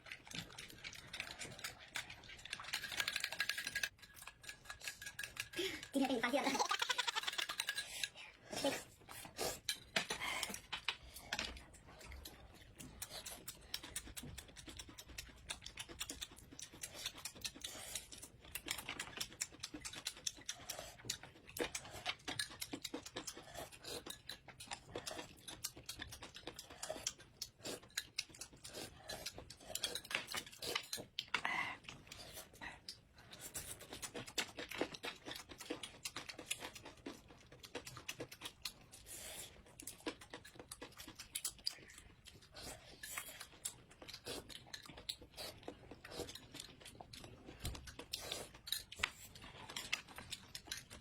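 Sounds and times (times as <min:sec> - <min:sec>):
chewing and crunching: 0:00.0 - 0:51.0.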